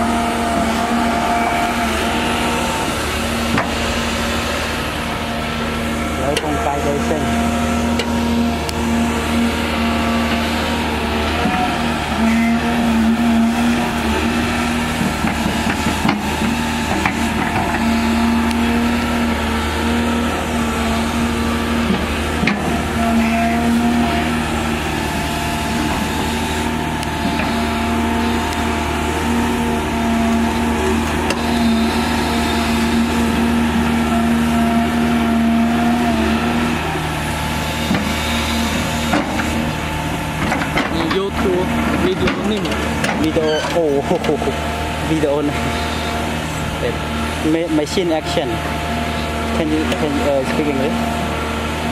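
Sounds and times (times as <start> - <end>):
excavator diesel engine: 0.0 - 51.9.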